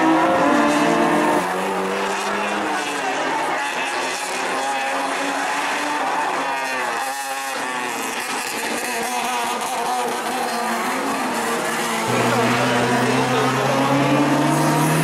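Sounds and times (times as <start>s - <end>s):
race car engines accelerating: 0.0s - 15.0s.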